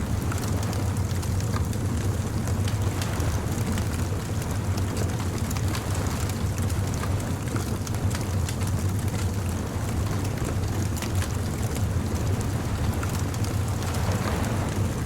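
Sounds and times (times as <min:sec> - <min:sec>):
bonfire crackling and popping: 0:00.0 - 0:15.0
low rumble of surf: 0:00.0 - 0:15.0.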